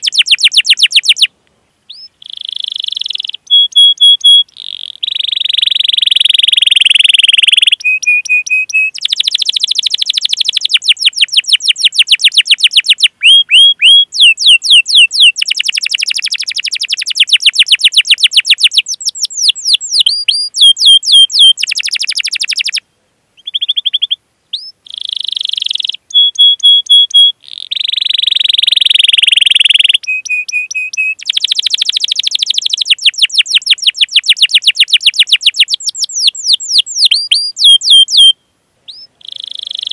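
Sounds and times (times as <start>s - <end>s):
canary singing: 0.0s - 1.3s, 1.9s - 22.8s, 23.4s - 39.9s.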